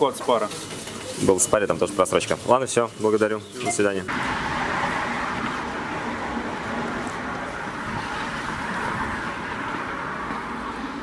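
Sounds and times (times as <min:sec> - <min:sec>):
city road traffic hiss: 0:00.6 - 0:11.0.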